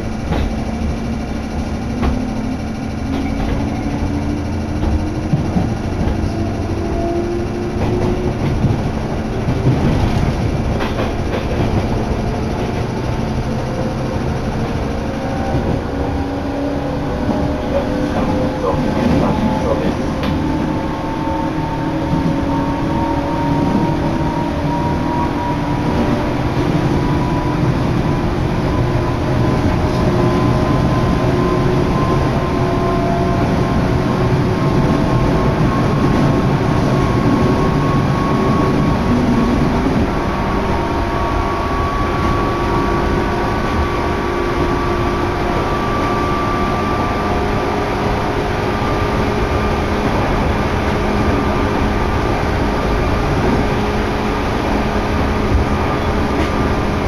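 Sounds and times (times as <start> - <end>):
train running noise inside car: 0.0 - 57.0.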